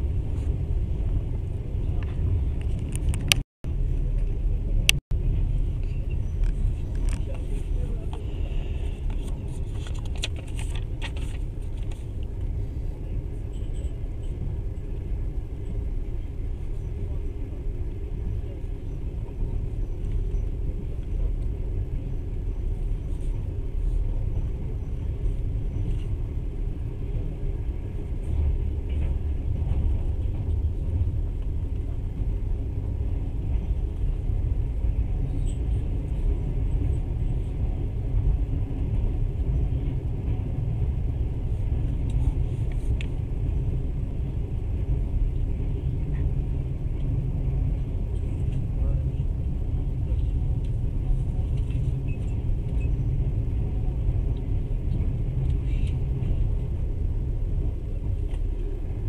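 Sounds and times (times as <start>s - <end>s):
train carriage rumbling on rails: 0.0s - 59.0s.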